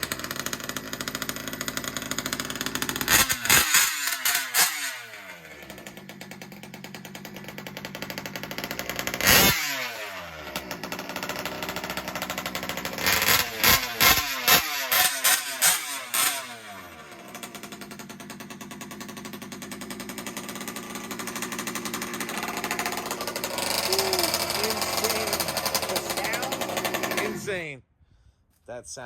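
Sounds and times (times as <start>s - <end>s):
two-stroke engine revving: 0.0s - 27.8s.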